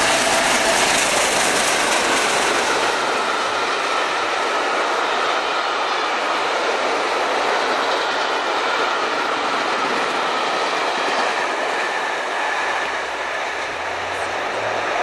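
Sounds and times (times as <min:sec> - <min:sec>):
train coaches passing at speed: 0:00.0 - 0:15.0.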